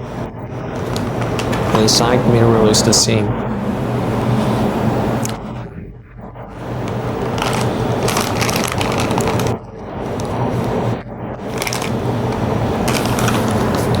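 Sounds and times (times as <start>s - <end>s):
hydraulic pump hum and hiss: 0.7s - 5.4s, 6.8s - 14.0s.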